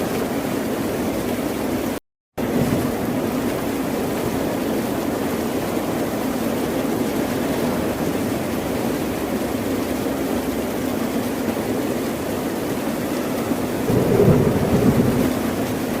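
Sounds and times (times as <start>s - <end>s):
low roar of water: 0.0s - 16.0s.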